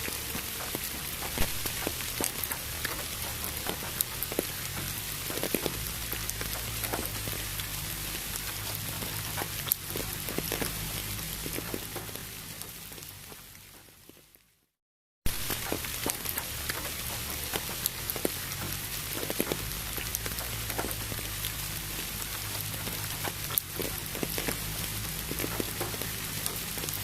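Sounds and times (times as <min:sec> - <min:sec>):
low steady rumble: 0:00.0 - 0:13.8, 0:15.3 - 0:27.0
rain hissing: 0:00.0 - 0:14.0, 0:15.3 - 0:27.0
raindrop ticks: 0:00.0 - 0:14.4, 0:15.3 - 0:27.0.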